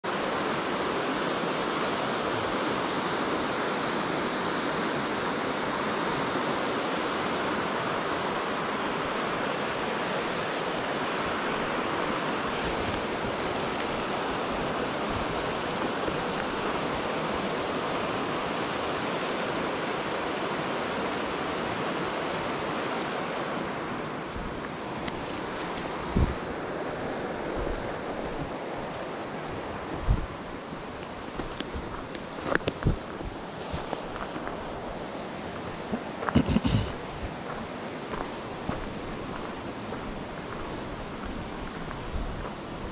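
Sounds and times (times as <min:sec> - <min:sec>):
mountain stream flowing: 0:00.0 - 0:42.9.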